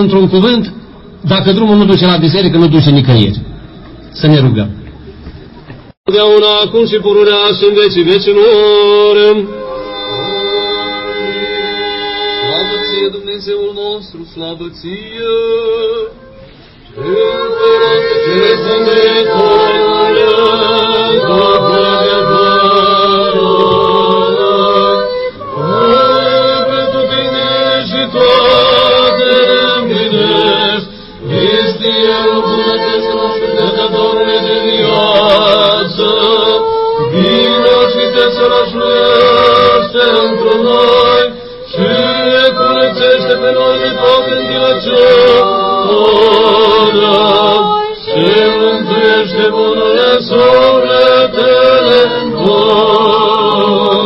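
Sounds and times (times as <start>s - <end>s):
liturgical chant singing: 6.1s - 54.0s.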